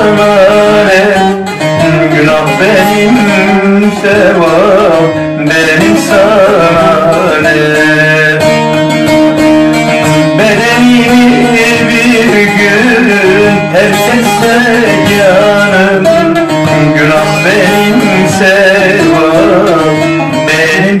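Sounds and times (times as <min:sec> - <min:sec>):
long-necked lute playing: 0:00.0 - 0:21.0
man singing: 0:00.0 - 0:21.0.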